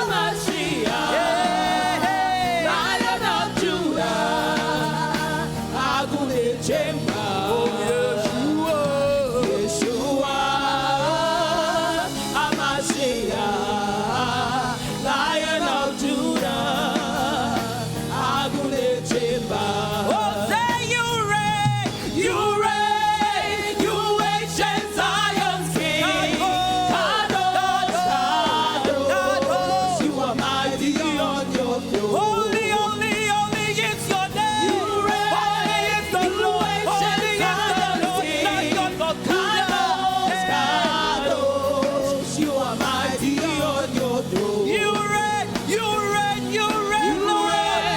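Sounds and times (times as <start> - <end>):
band accompaniment: 0.0 - 47.9
gospel worship singing: 0.0 - 47.9.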